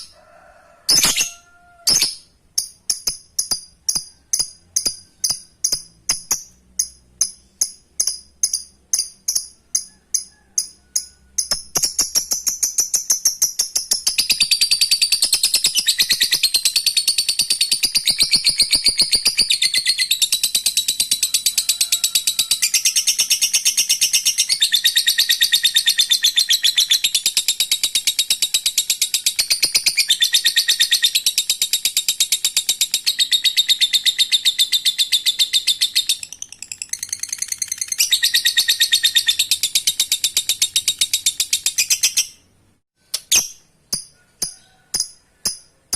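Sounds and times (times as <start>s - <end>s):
sharp bird chirps: 0.9s - 21.4s, 22.3s - 43.8s
bird chattering trill: 0.9s - 21.6s, 22.2s - 42.5s.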